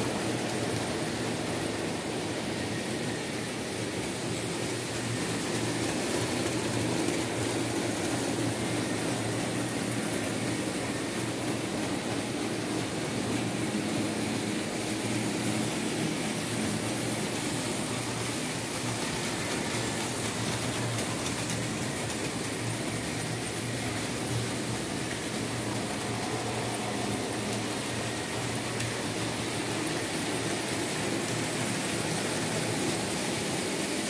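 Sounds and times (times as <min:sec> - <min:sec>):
model train motors whirring: 0:00.0 - 0:34.0
metal wheels rolling on track: 0:00.1 - 0:34.0.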